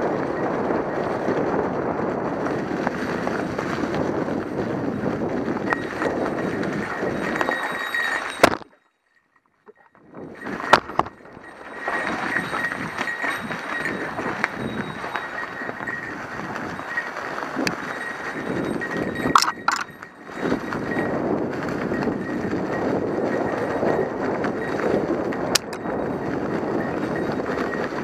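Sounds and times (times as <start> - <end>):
mountain bike tyre noise: 0.0 - 8.8, 9.8 - 28.0
bike rattling and knocking: 0.0 - 28.0.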